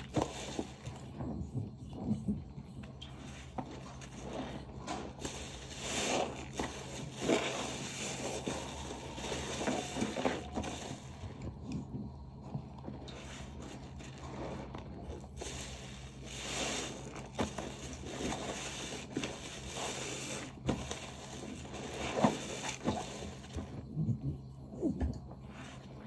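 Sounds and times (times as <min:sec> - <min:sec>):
soapy sponge squishing: 0:00.0 - 0:23.9.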